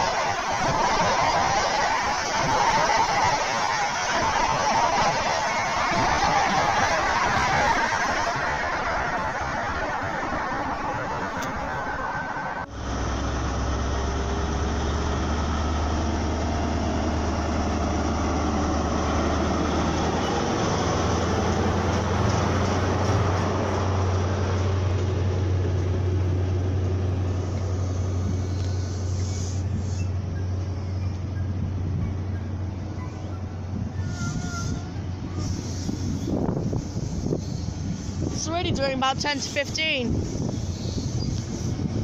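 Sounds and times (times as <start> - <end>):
diesel train engine drone: 0.0 - 42.0
open-air noise: 0.0 - 42.0
train coaches rumbling past: 0.0 - 42.0.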